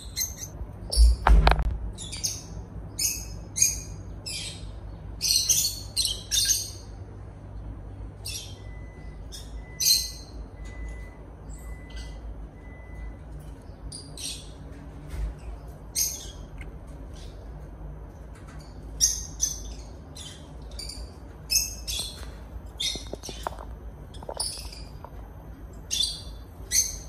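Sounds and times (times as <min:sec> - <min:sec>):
lovebirds chirping: 0:00.0 - 0:01.3, 0:02.0 - 0:27.0.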